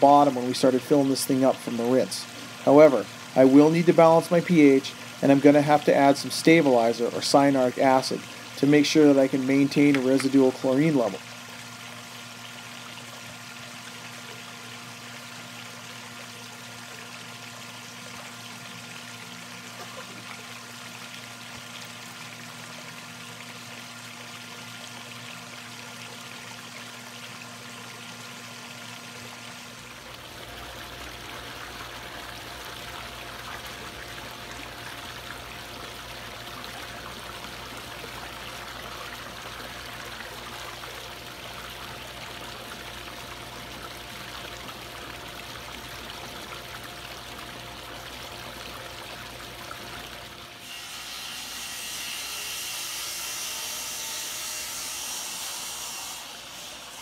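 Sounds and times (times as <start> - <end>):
pool water trickling: 0.0 - 57.0.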